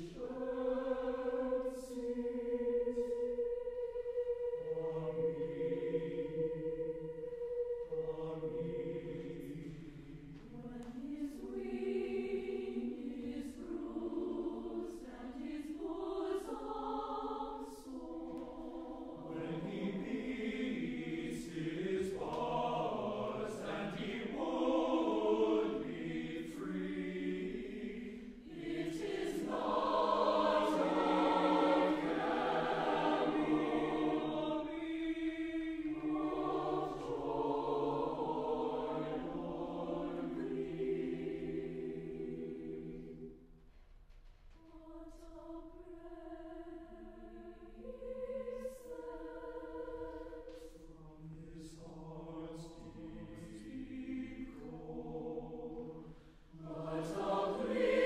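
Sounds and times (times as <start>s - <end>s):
choir singing sustained chords: 0.0s - 43.6s, 44.5s - 58.0s.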